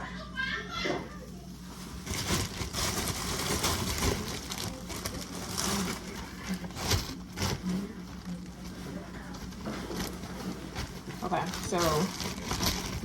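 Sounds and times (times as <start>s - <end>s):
plastic bag rustling: 1.6s - 13.0s.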